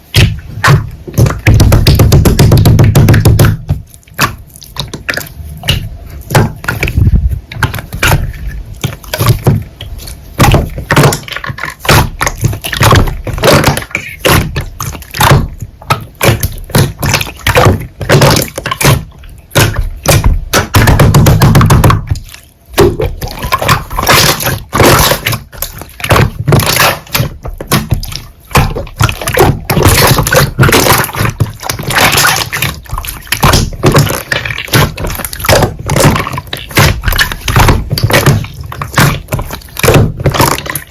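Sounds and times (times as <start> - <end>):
slime squelching and clicking: 0.0 - 40.9.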